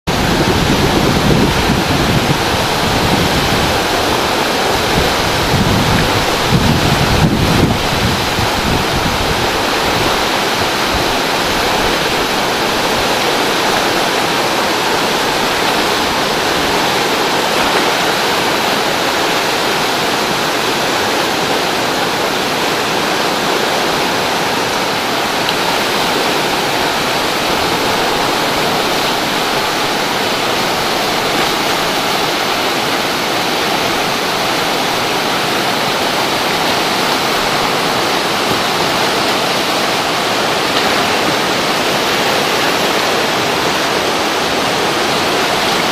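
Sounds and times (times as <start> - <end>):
whitewater rapids rushing: 0.1 - 45.9.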